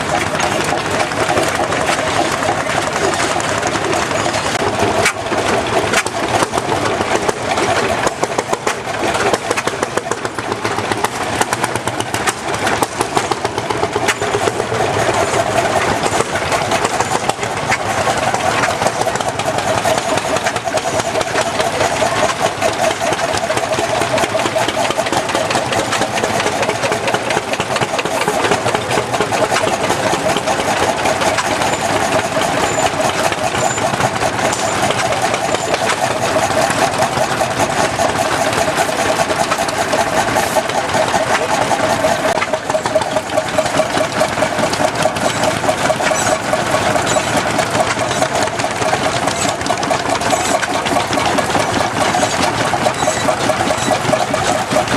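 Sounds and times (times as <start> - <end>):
tractor engines knocking: 0.0 - 54.9.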